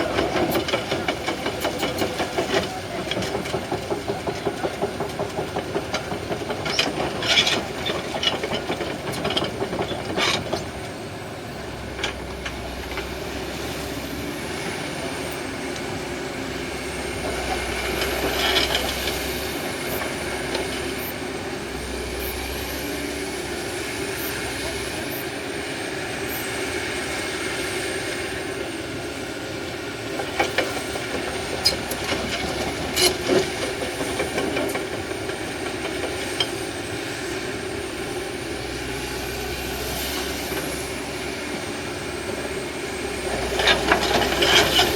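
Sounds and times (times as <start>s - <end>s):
excavator diesel engine working: 0.0s - 44.9s.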